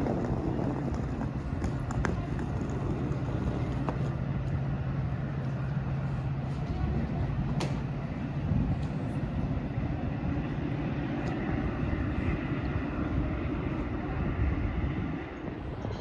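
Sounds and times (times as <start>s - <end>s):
diesel train low rumble: 0.0s - 16.0s.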